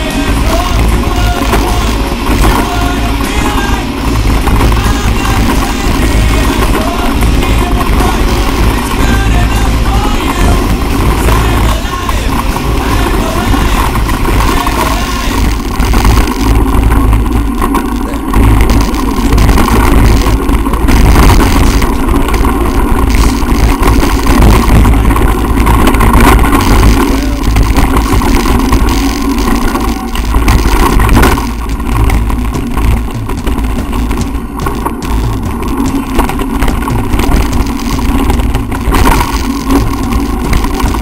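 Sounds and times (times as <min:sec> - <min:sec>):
bicycle rattling over dirt: 0:00.0 - 0:41.0
wind buffeting microphone: 0:00.0 - 0:41.0.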